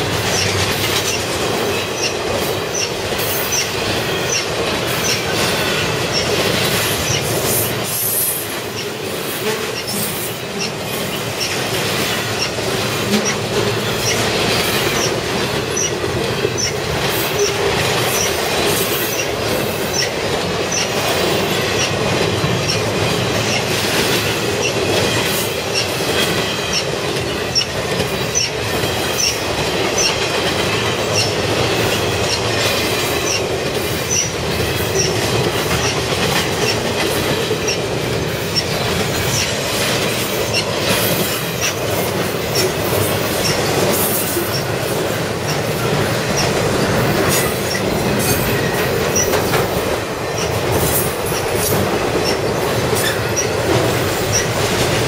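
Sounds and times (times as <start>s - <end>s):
regular rail clicks: 0.0s - 55.0s
train wheels rumbling on rail: 0.0s - 55.0s.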